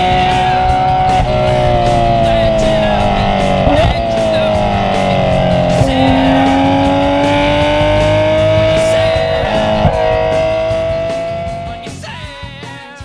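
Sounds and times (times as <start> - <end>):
sports car engine accelerating: 0.0 - 12.6
guitar music: 0.0 - 13.0.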